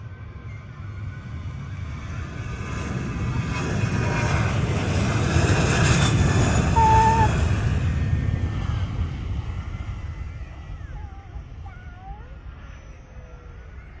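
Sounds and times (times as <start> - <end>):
airplane passing overhead: 0.0 - 14.0.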